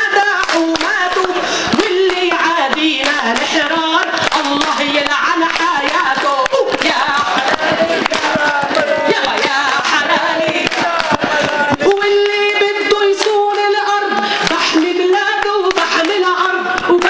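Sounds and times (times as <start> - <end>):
crowd clapping along: 0.0 - 17.0
woman singing into microphone: 0.0 - 17.0.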